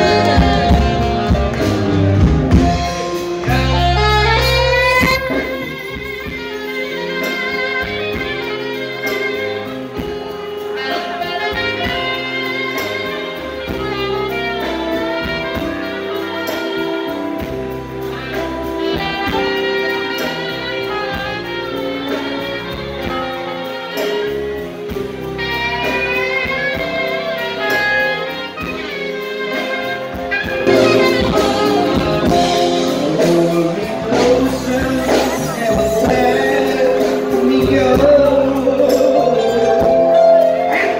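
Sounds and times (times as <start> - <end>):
bass guitar: 0.0 - 40.9
drums: 0.0 - 40.9
saxophone melody: 0.0 - 40.9.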